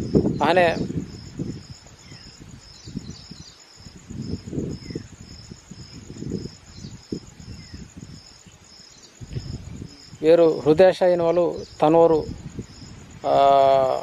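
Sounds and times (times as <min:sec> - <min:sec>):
cricket chirping: 0:00.0 - 0:14.0
low rumbling on microphone: 0:00.0 - 0:14.0.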